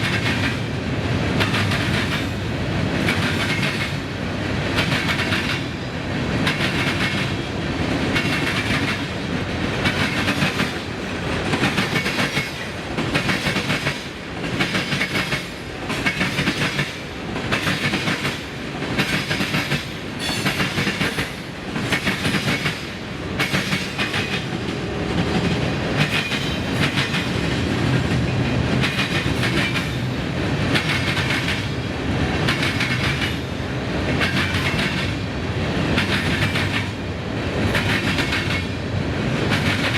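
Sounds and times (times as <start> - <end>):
train wheels clattering over rail joints: 0.0 - 0.7, 1.3 - 39.9
train rumble: 0.0 - 39.9.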